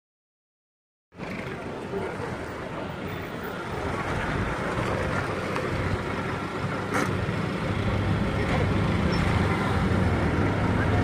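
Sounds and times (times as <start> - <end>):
vehicle engines rumbling: 1.1 - 11.0.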